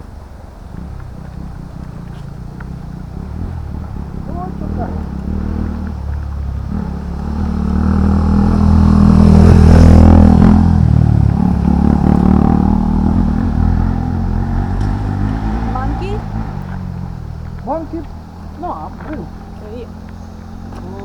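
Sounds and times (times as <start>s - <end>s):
motor vehicle engine running: 0.0s - 21.0s.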